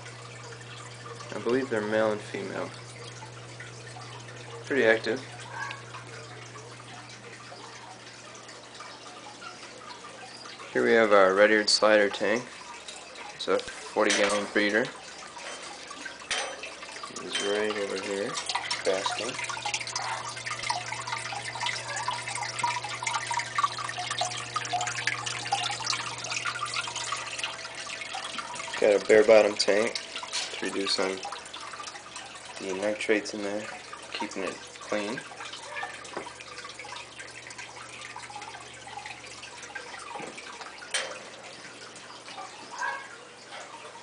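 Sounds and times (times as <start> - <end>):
low steady hum: 0.0 - 44.0
water trickling and splashing: 0.0 - 44.0.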